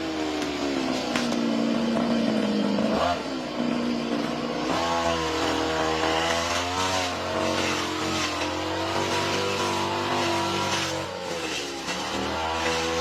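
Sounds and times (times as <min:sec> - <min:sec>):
lawn mower engine under load: 0:00.0 - 0:13.0.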